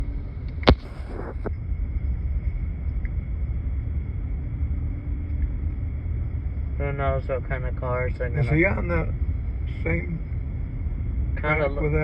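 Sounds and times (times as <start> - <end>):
diesel locomotive engine rumbling: 0.0 - 12.0
faint steady hum: 0.0 - 12.0.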